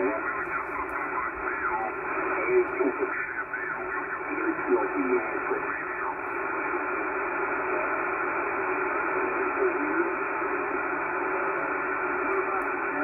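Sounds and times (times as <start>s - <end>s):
garbled radio voice: 0.0s - 6.7s, 8.9s - 13.0s
radio speaker hiss: 0.0s - 13.0s.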